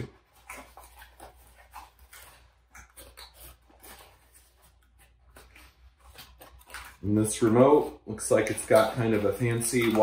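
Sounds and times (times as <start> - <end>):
packaging rustling and clicking: 0.0 - 10.0.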